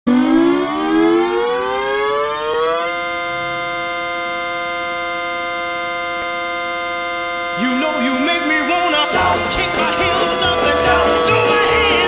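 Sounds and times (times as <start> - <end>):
goal horn siren wailing: 0.1 - 12.0.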